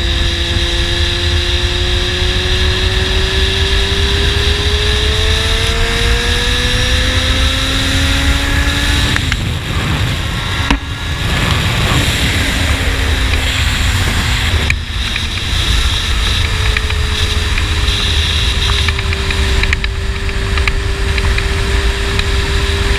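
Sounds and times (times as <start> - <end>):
motorcycle engine revving: 0.0 - 22.9
wind rush on microphone: 0.0 - 22.9.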